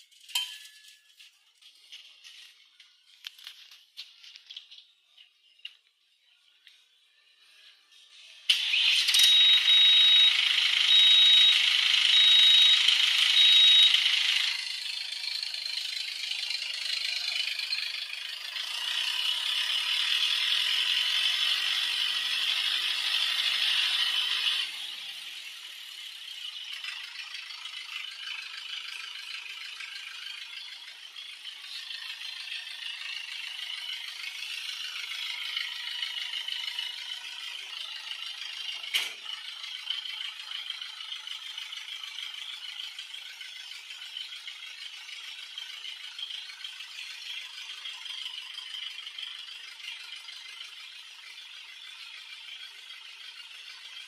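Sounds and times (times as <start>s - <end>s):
tractor diesel engine idling: 7.7s - 54.0s.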